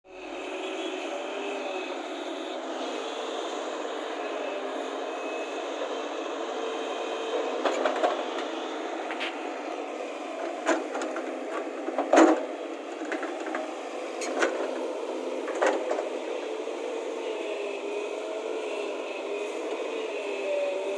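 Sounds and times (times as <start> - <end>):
excavator engine running: 0.1 - 20.9.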